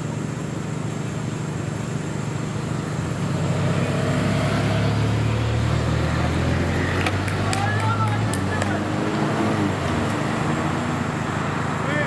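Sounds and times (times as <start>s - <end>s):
vehicle engine passing: 1.5s - 12.0s.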